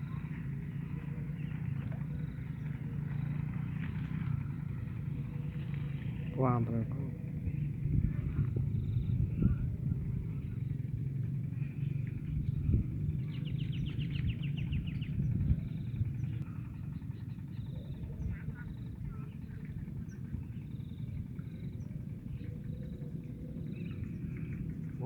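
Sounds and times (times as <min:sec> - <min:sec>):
low rumble on microphone: 0:00.0 - 0:25.0.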